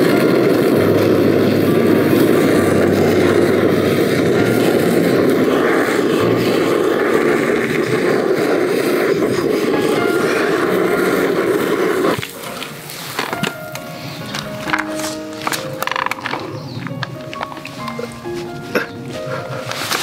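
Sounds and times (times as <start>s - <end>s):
gas torch flame hissing: 0.0s - 20.0s.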